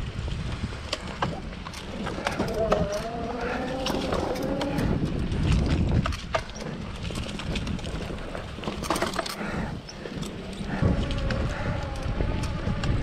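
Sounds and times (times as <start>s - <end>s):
bike clicks and rattles: 0.0s - 13.0s
tyres rumbling on dirt trail: 0.0s - 13.0s.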